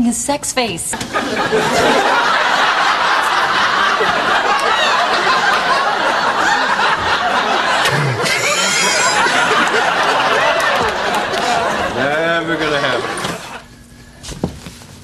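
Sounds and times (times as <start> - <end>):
actors laughing: 1.0 - 13.7
studio audience laughing: 1.0 - 13.7.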